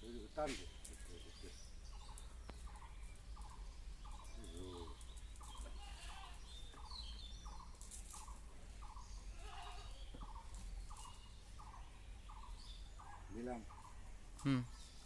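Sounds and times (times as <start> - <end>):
faint high bird chirps: 0.0 - 15.0.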